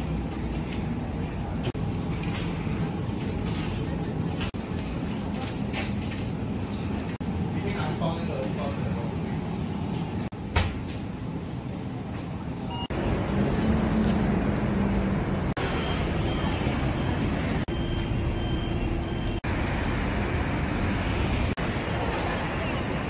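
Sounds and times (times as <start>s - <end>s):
heavy road traffic rumble: 0.0s - 23.0s.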